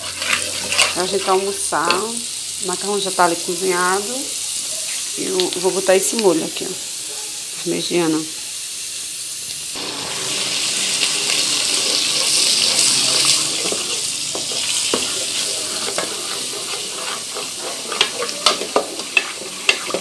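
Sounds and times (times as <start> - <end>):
spoon stirring and scraping pan: 0.0 - 6.8, 9.8 - 20.0
sauce sizzling in metal pan: 0.0 - 20.0.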